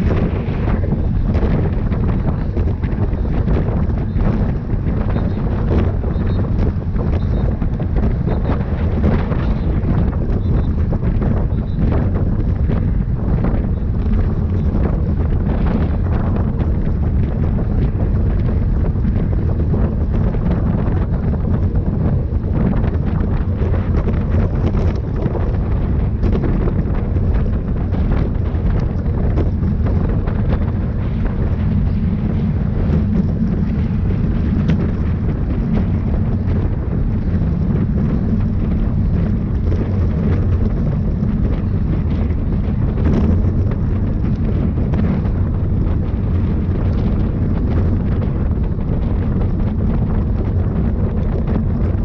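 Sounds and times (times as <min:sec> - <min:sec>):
wind rushing over microphone: 0:00.0 - 0:52.0.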